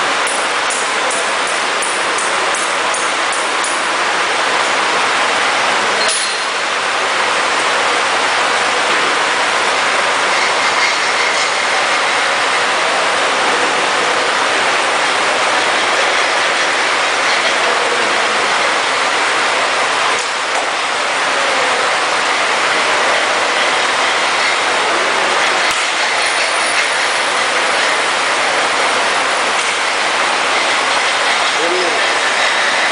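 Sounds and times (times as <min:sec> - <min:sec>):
lathe cutting metal: 0:00.0 - 0:32.9.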